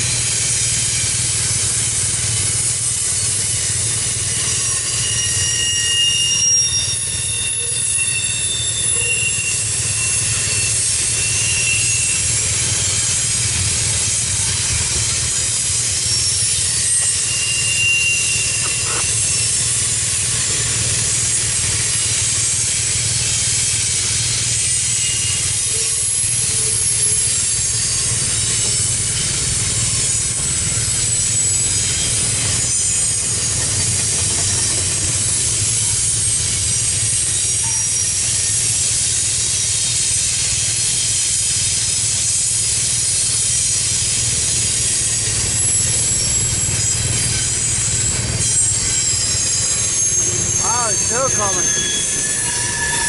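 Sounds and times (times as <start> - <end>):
train wheels rumbling on rail: 0.0 - 53.0
faint high squeals: 2.7 - 22.7, 23.3 - 38.8, 43.1 - 53.0.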